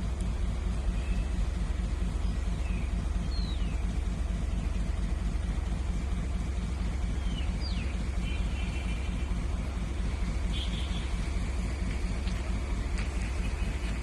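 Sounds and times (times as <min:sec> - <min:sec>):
low engine rumble: 0:00.0 - 0:14.0
birds chirping: 0:00.3 - 0:14.0.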